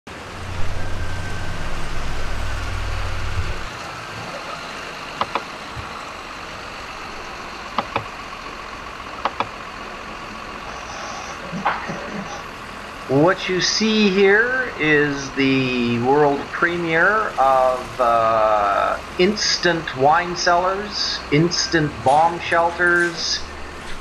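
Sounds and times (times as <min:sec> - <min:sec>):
diesel engine running: 0:00.1 - 0:24.0.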